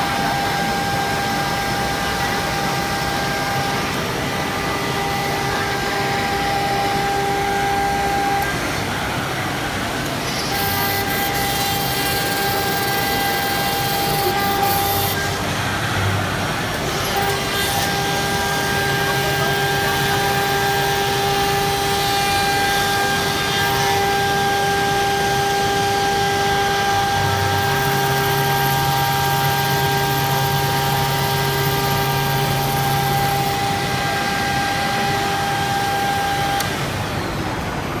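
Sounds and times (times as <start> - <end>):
cutting machine whine: 0.0 - 38.0
machine hum: 0.0 - 38.0.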